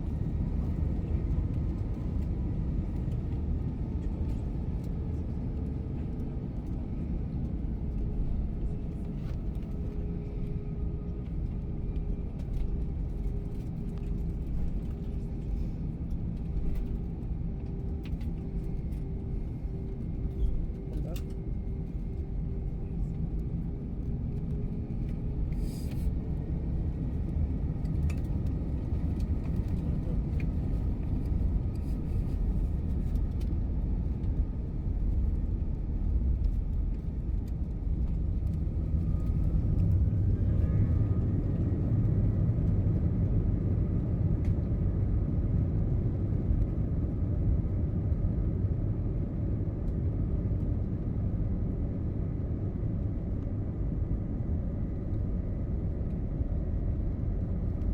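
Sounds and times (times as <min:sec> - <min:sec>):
airplane cabin rumble: 0:00.0 - 0:57.9.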